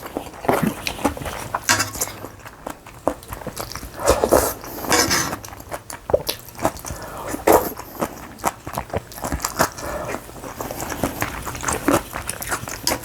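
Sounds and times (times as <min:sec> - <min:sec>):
slurping and chewing: 0:00.0 - 0:13.0.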